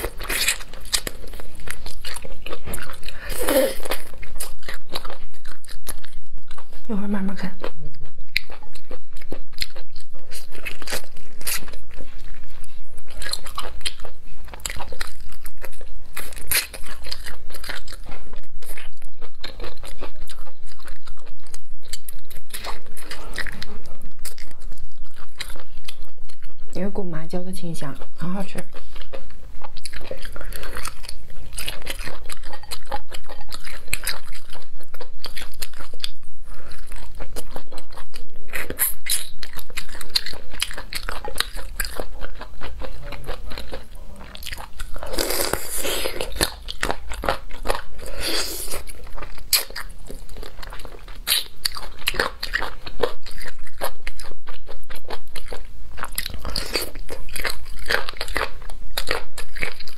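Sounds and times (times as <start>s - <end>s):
crunchy chewing: 0.0s - 26.8s, 27.8s - 59.9s.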